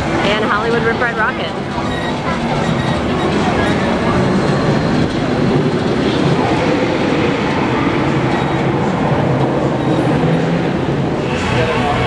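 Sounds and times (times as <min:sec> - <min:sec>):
roller coaster wheels rumbling on rail: 0:00.0 - 0:12.0.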